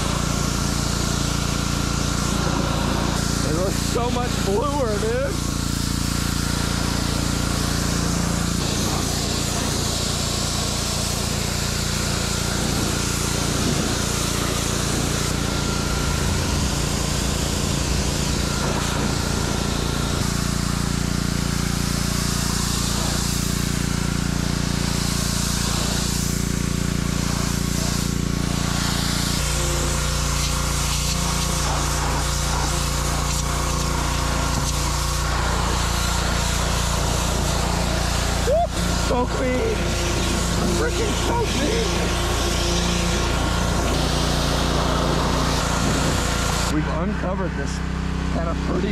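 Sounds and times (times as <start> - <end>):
high-pressure spray hissing: 0.0 - 46.7
pressure washer engine running: 0.0 - 48.9.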